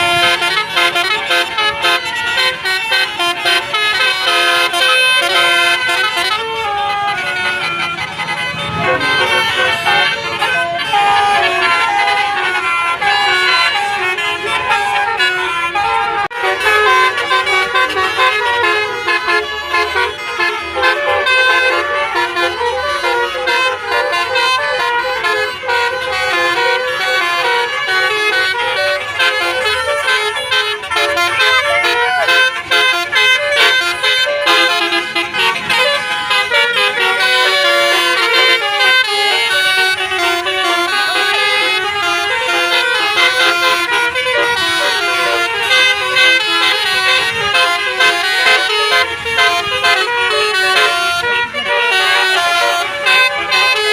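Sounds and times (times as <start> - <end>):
musical bus air horn melodies: 0.0 - 53.9.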